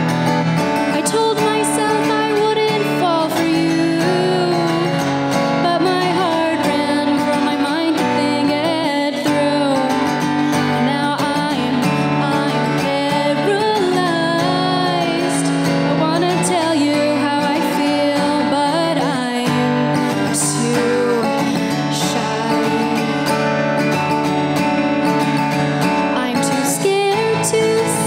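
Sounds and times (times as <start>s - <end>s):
acoustic guitar: 0.0s - 28.0s
woman singing: 0.7s - 24.2s, 25.2s - 28.0s.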